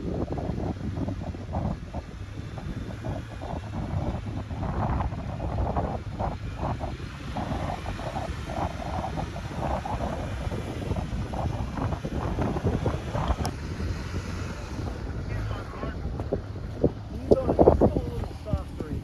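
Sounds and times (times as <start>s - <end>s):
low rumble: 0.0s - 19.0s
wind gusting over microphone: 0.0s - 19.0s.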